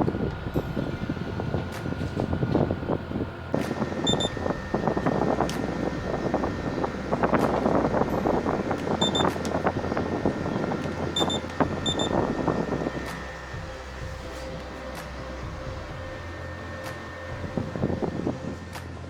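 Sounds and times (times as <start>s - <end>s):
air conditioner humming and rattling: 0.0s - 19.0s.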